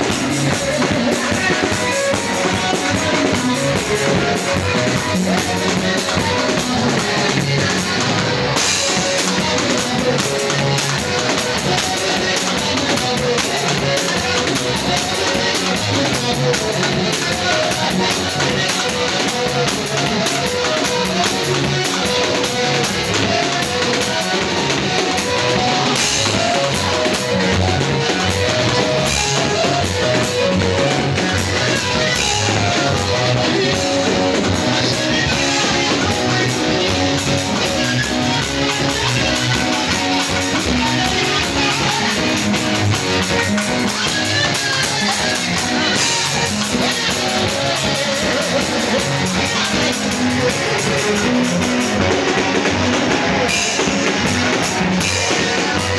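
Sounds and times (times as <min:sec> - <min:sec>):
upbeat band with guitar and drums: 0:00.0 - 0:55.9.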